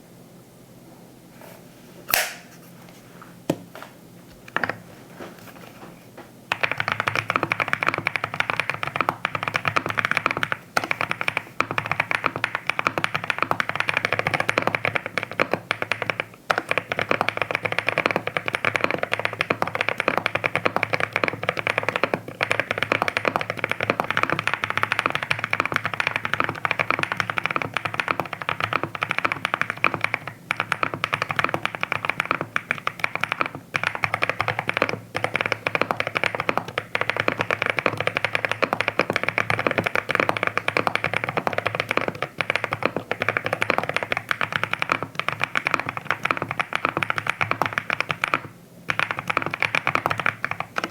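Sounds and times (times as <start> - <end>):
mechanical keyboard typing: 6.5 - 50.9.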